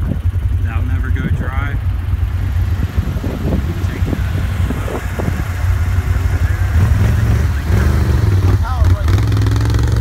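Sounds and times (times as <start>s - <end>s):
atv engine idling: 0.0s - 10.0s.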